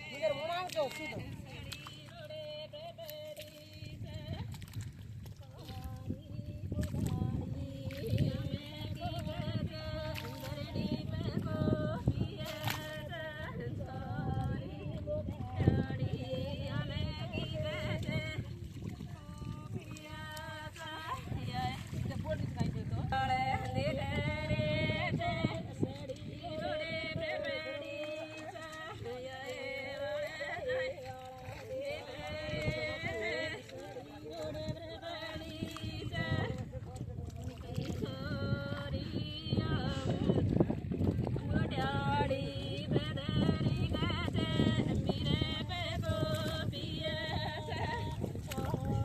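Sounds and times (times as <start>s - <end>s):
woman singing with vibrato: 0.0s - 4.5s, 5.5s - 49.0s.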